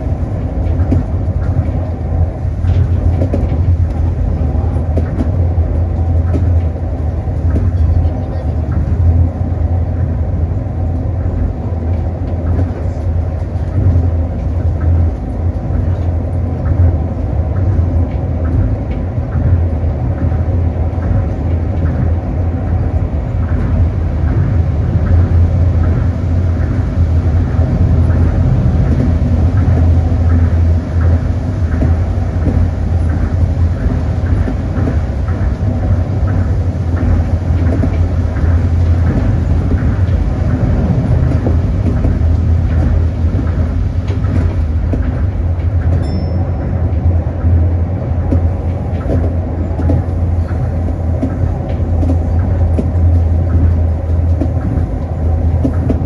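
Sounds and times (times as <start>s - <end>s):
train running drone: 0.0s - 56.0s.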